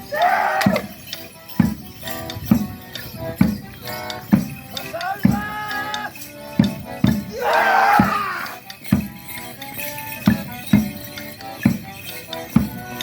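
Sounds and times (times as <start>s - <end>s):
jingling: 0.0s - 13.0s.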